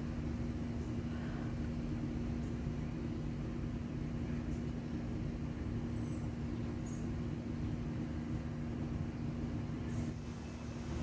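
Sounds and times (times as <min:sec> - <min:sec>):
steady low hum: 0:00.0 - 0:11.0
strong wind gusting through trees: 0:00.0 - 0:11.0.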